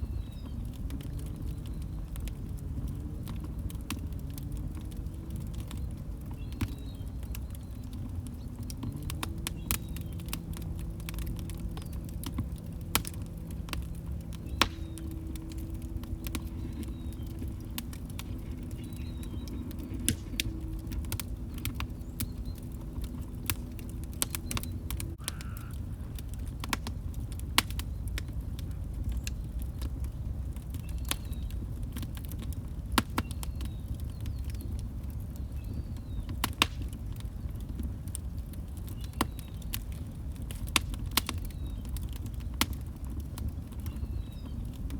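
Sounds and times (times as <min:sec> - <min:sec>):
log fire crackling and popping: 0:00.0 - 0:44.9.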